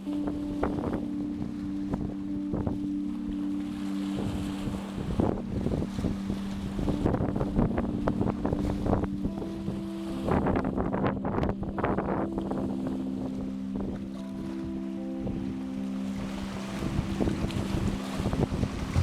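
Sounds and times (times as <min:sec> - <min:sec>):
sea waves splashing: 0:00.0 - 0:11.0, 0:11.7 - 0:19.0
soft music of held chords: 0:00.0 - 0:19.0
wind buffeting microphone: 0:00.0 - 0:19.0.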